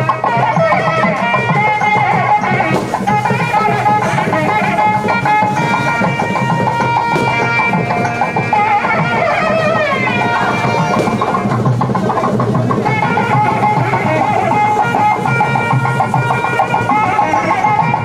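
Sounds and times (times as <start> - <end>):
drums: 0.0 - 18.0
held melody with bending notes: 0.0 - 18.0.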